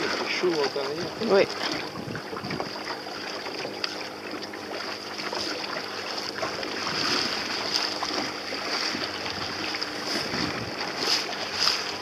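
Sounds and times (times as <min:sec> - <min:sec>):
water splashing against boat hull: 0:00.0 - 0:12.0.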